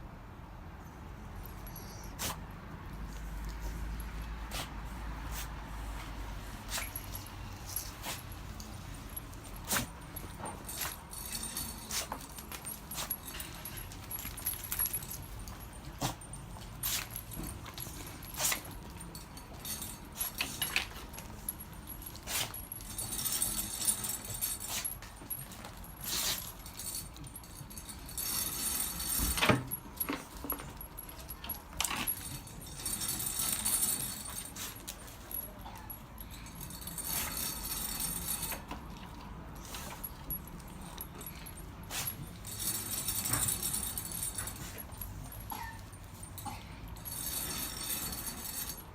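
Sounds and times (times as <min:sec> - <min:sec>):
metal jingling: 0:06.4 - 0:48.9.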